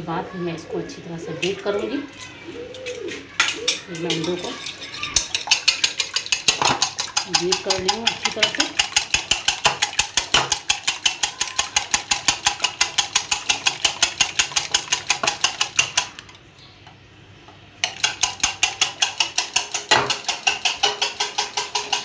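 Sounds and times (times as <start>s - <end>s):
whisk beating eggs in a bowl: 2.8s - 16.4s, 17.8s - 22.0s.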